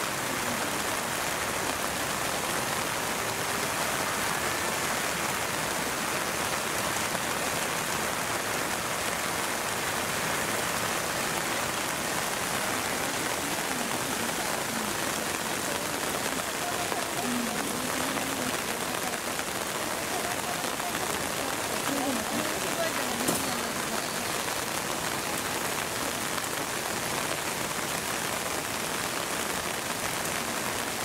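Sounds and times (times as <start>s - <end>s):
hard rain falling on pond: 0.0s - 31.0s.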